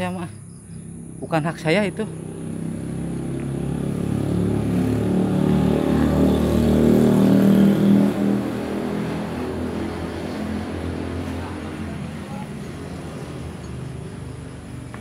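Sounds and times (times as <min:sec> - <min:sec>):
vehicle engine passing by: 0:00.8 - 0:15.0.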